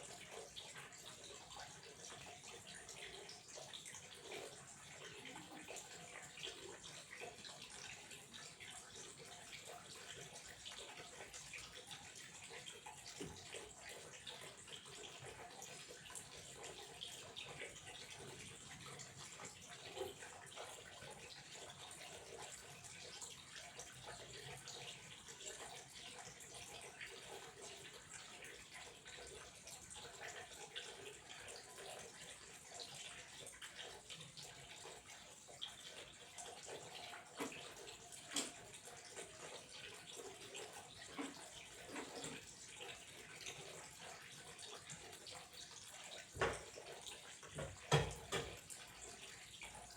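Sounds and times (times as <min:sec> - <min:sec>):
running water trickling: 0:00.0 - 0:49.9
water splashes and drips: 0:00.0 - 0:49.9.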